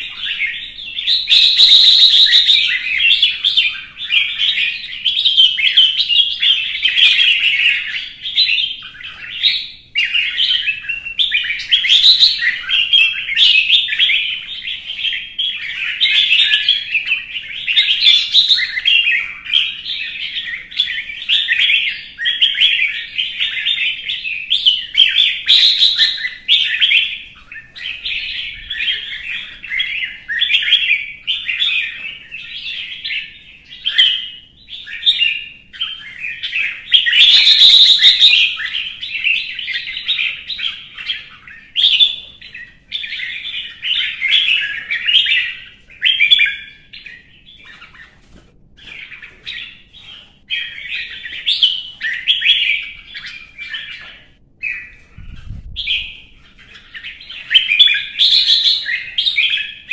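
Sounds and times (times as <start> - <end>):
bird rapid chirping song: 0.0 - 59.9.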